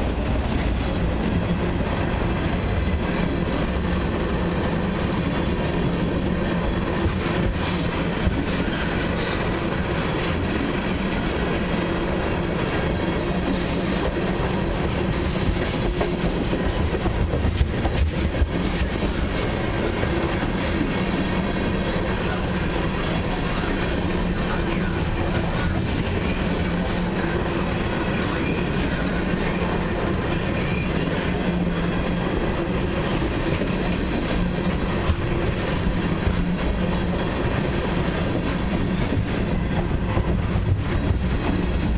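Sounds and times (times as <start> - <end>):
steel train wheels rumbling on rail: 0.0 - 41.9.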